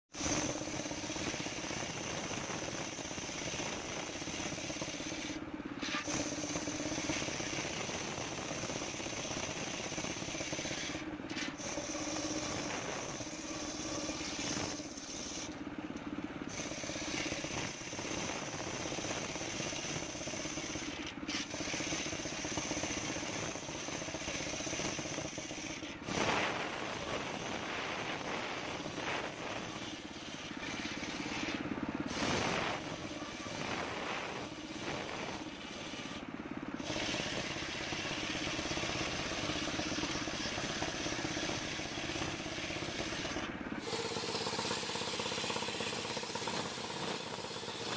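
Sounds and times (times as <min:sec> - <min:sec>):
table saw ripping wood: 0:00.1 - 0:15.6, 0:16.5 - 0:36.2, 0:36.8 - 0:47.9.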